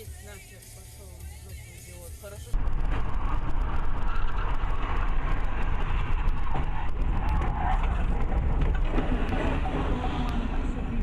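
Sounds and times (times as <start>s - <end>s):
car engine and tyres rumbling: 1.9s - 11.0s.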